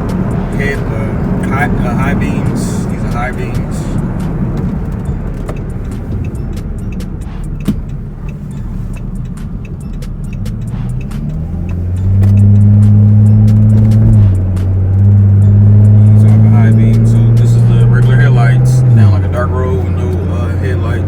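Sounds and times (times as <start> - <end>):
car engine rumble: 0.0 - 21.0
deep steady hum: 0.0 - 21.0
road noise: 0.0 - 21.0.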